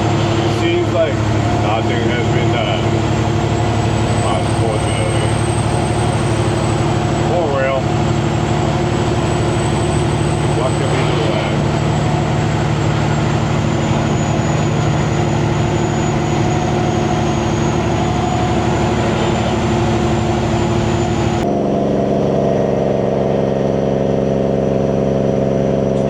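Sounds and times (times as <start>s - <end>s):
truck diesel engine cruising: 0.0s - 26.0s
turbocharger whistle: 0.0s - 26.0s.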